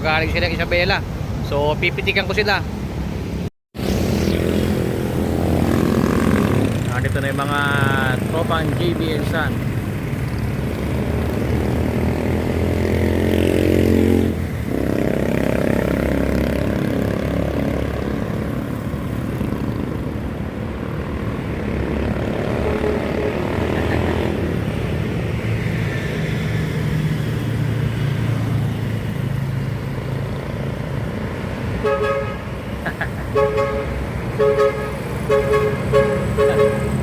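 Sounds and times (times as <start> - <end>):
heavy diesel trucks driving past: 3.8 - 37.0.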